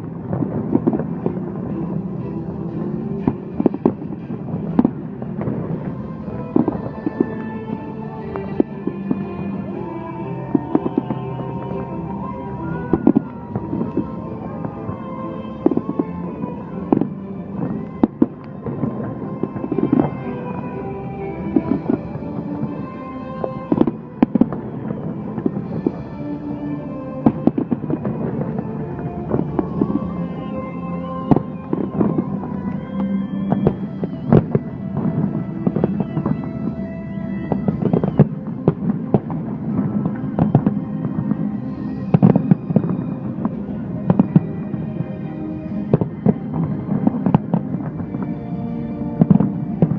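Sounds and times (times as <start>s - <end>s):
fireworks bursting with sharp bangs: 0.0s - 49.9s.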